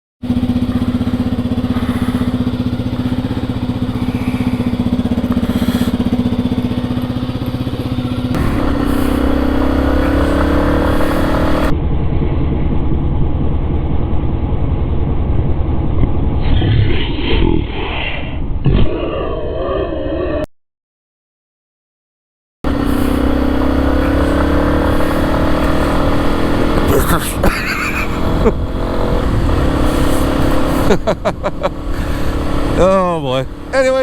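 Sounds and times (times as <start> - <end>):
motorcycle engine revving: 0.2 - 17.1, 22.6 - 34.0.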